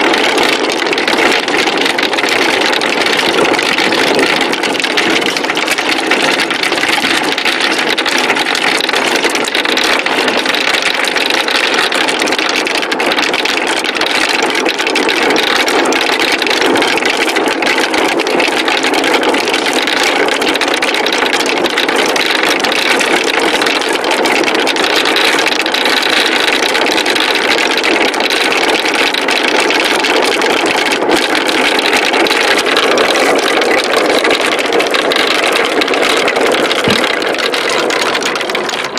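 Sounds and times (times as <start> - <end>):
marbles rattling down wooden run: 0.0 - 38.9.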